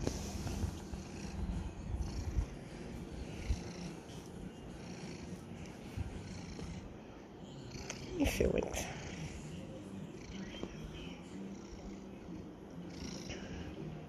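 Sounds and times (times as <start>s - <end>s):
cat purring: 0.0s - 14.0s.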